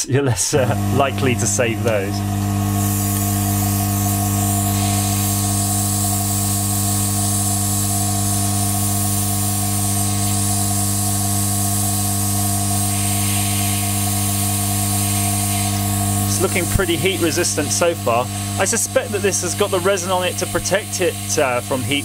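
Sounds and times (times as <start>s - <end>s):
hot air gun fan hum: 0.5s - 22.0s
rushing hiss of air: 2.8s - 22.0s.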